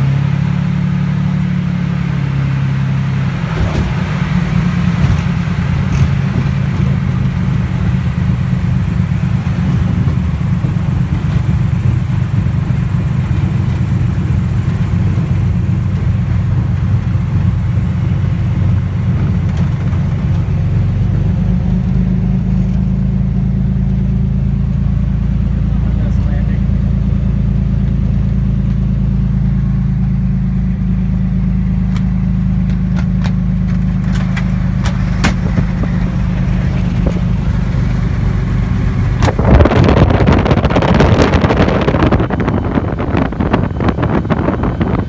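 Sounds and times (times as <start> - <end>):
propeller plane engine running: 0.0 - 45.0.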